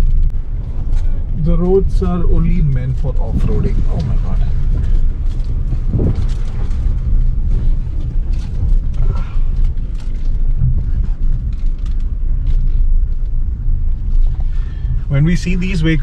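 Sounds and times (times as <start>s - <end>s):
car knocks and rattles: 0.0s - 14.5s
car rumbling on rough road: 0.0s - 16.0s.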